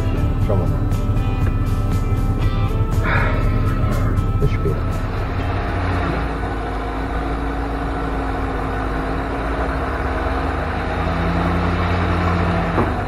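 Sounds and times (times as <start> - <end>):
deep engine note: 0.0 - 13.0
truck engine running: 0.0 - 13.0.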